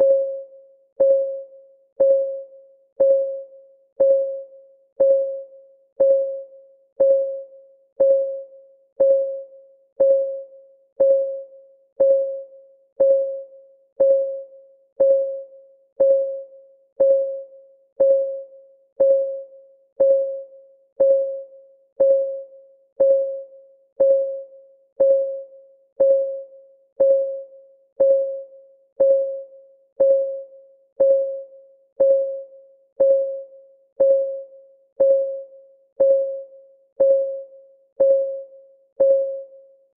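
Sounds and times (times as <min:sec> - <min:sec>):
ticking clock tone: 0:01.0 - 0:39.6.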